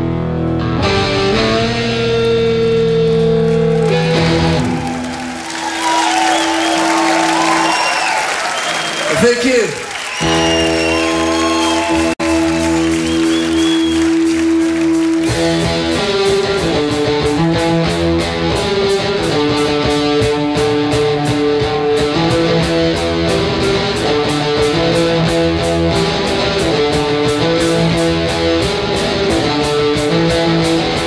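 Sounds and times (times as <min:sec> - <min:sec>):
rock band playing: 0:00.0 - 0:31.0.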